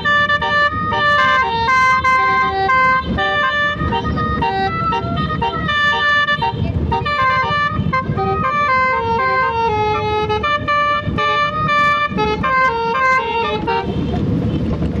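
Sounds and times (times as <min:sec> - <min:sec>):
musical air horns playing a tune: 0:00.0 - 0:14.2
low engine rumble: 0:00.0 - 0:15.0.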